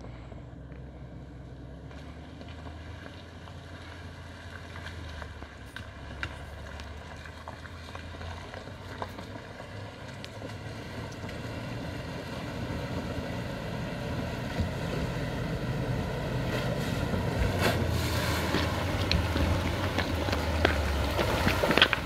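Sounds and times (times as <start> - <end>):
car engine running low: 0.0 - 22.0
water washing around wheels: 1.9 - 22.0.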